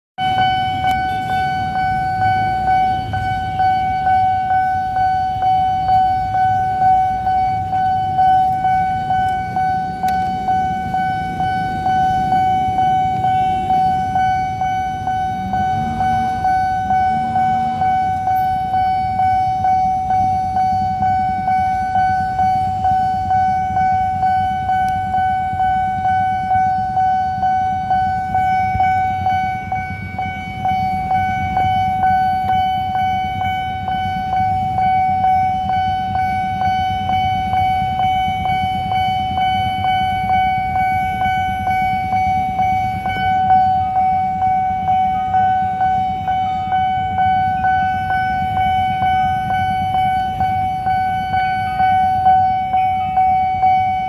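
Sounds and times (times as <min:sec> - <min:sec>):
pulsing level crossing alarm: 0:00.2 - 0:54.0.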